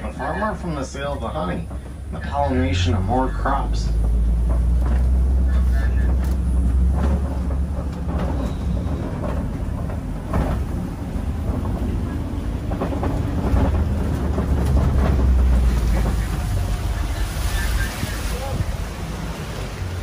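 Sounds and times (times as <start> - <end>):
truck engine and road rumble: 0.0 - 20.0
vehicle frame rattling: 0.0 - 20.0.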